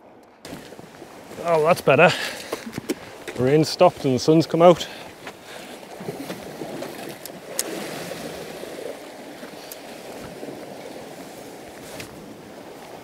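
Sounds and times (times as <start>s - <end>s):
sea water lapping against rocks: 0.4s - 13.0s.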